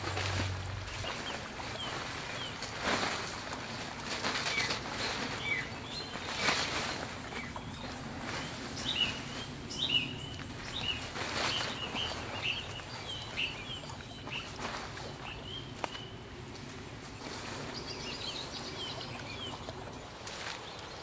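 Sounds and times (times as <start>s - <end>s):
small birds chirping: 0.0s - 21.0s
tarp rustling and crinkling: 0.0s - 21.0s.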